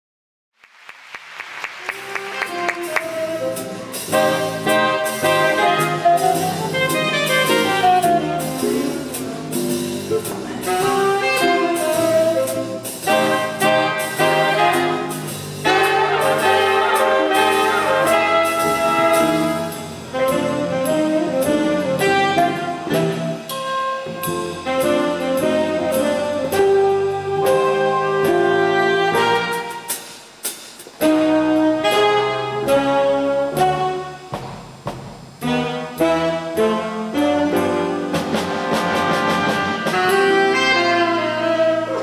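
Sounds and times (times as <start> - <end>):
swing band playing jazz: 1.6 - 42.0.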